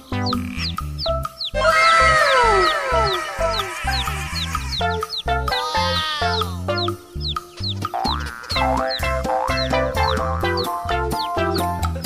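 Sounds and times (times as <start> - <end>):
children's background music: 0.0 - 12.0.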